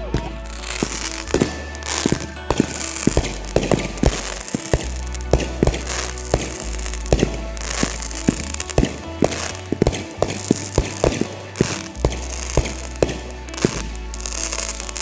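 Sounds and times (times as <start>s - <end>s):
background music with bass line: 0.0s - 15.0s
fireworks cracking and popping: 0.0s - 15.0s.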